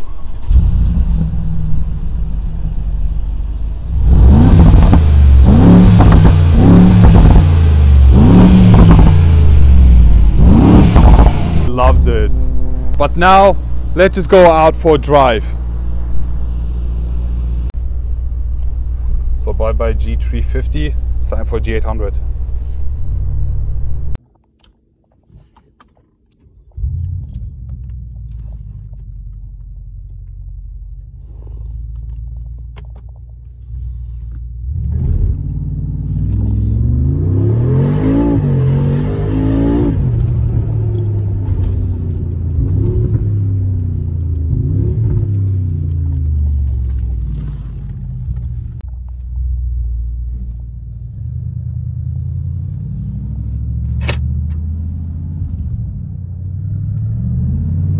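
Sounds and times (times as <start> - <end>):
car engine accelerating: 0.0 - 24.2, 26.7 - 57.9.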